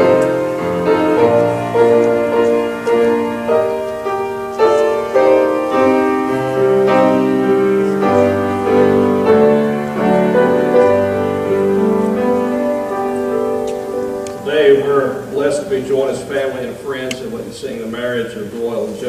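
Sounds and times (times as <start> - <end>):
slow gentle piano piece: 0.0 - 15.8.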